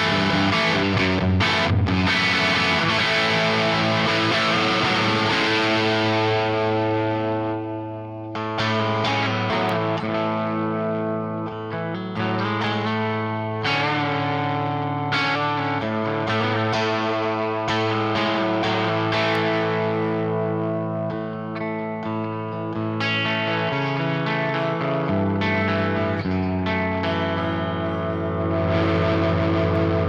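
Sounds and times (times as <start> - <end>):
overdriven electric guitar chords: 0.0 - 30.0.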